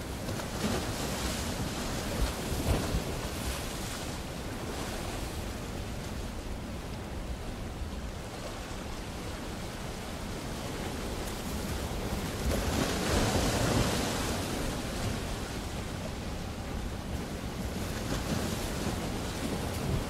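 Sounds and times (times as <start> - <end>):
ocean waves: 0.0 - 20.0.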